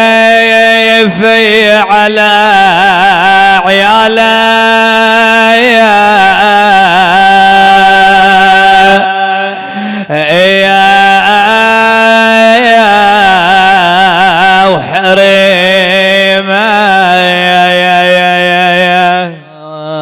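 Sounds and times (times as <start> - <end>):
man chanting a lament: 0.0 - 20.0.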